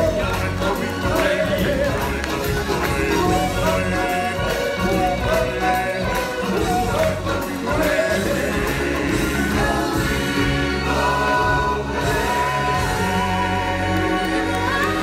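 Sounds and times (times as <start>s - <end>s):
bass line: 0.0s - 15.0s
choir singing held notes: 0.0s - 15.0s.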